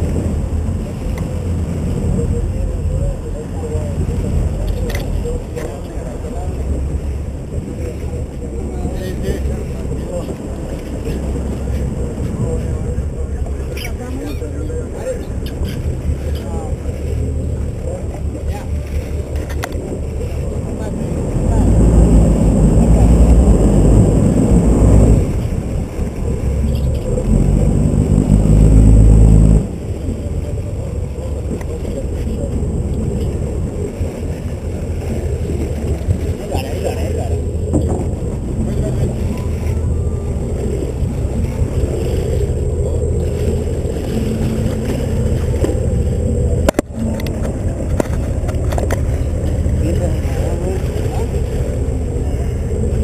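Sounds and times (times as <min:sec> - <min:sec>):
boat engine rumbling: 0:00.0 - 0:53.0.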